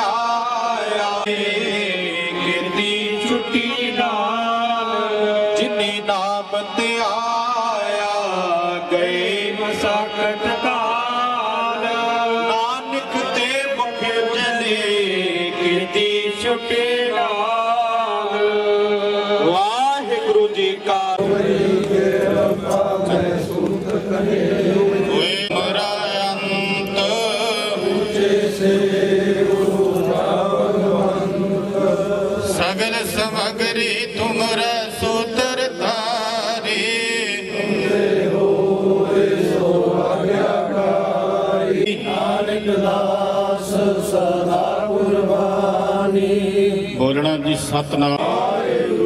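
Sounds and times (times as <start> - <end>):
harmonium drone: 0.0 - 48.0
person chanting a hymn: 0.0 - 49.0.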